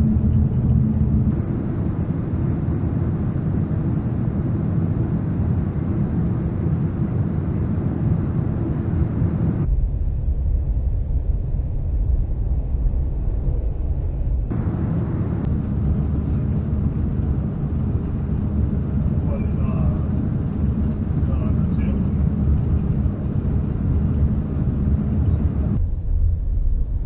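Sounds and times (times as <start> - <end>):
truck engine and tyre rumble: 0.0 - 27.0.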